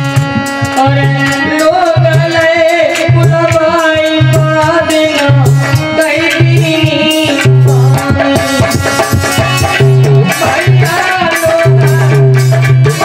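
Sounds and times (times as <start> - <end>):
harmonium chords: 0.0 - 13.0
steady drum beat: 0.0 - 13.0
man singing: 0.7 - 13.0.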